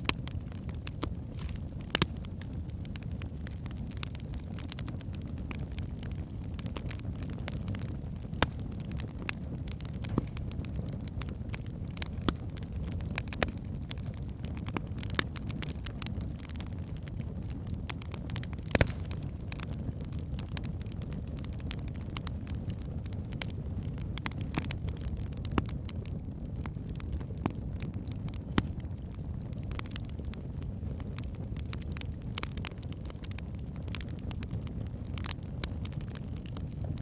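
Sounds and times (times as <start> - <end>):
log fire crackling and popping: 0.0 - 37.0.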